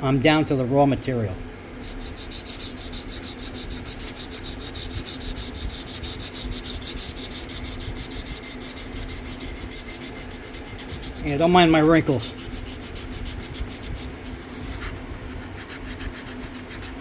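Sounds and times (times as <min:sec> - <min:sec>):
sandpaper rubbing: 0:01.4 - 0:17.0.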